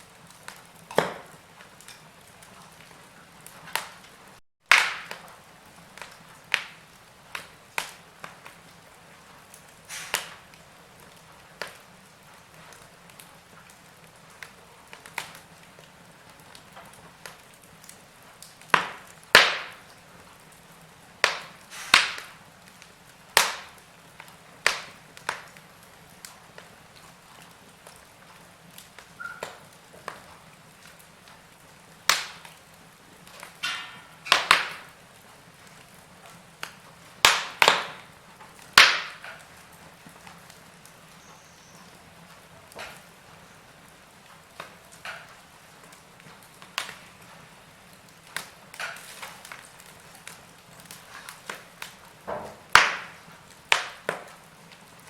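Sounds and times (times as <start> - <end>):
low steady hiss: 0.0 - 55.0
wood fire crackling: 0.0 - 55.0.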